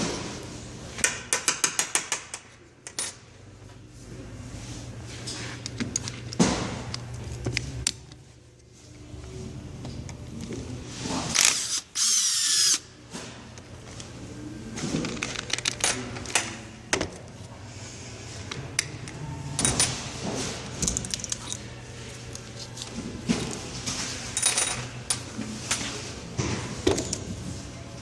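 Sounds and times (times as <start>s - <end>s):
steady low hum: 2.3s - 28.0s.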